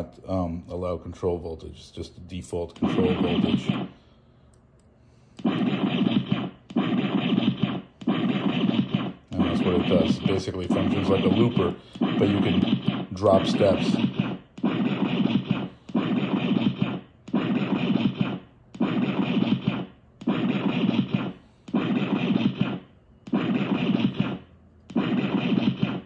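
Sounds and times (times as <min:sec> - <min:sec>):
recorded sample playing repeatedly: 0:02.6 - 0:04.1, 0:05.4 - 0:26.0.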